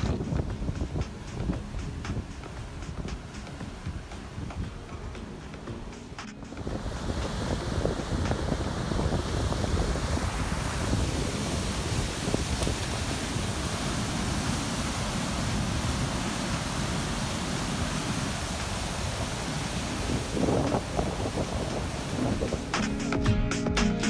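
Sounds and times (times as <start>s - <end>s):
wind buffeting microphone: 0.0s - 22.9s
white water rushing over rocks: 0.0s - 23.3s.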